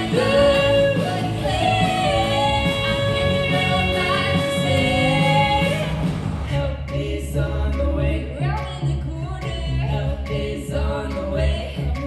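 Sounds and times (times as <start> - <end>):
female vocal trio singing: 0.0 - 12.0.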